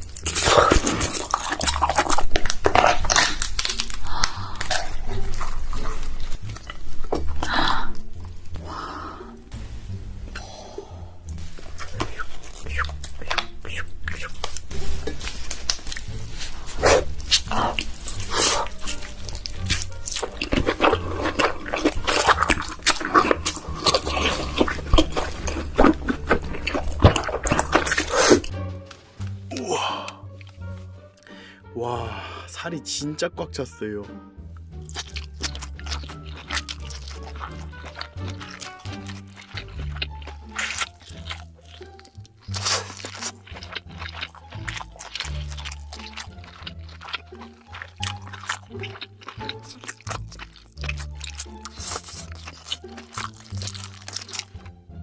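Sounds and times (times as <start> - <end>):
crab shell cracking: 0.0 - 8.6, 11.3 - 29.0, 34.7 - 54.9
biting and chewing: 0.0 - 9.4, 11.2 - 31.4, 34.6 - 55.0.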